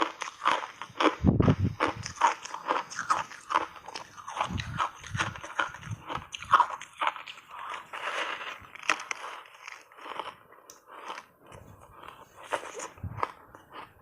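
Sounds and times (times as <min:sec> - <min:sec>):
person crunching ice: 0:00.0 - 0:14.0.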